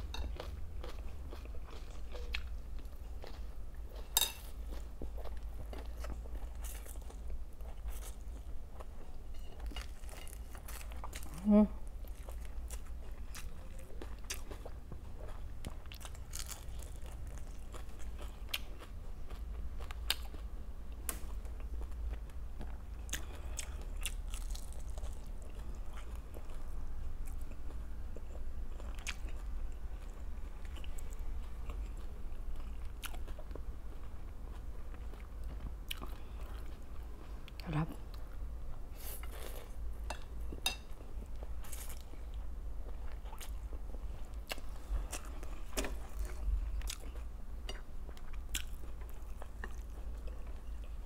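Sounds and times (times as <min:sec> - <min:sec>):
chewing crunchy fried food: 0:00.0 - 0:51.0
steady low hum: 0:00.0 - 0:51.0.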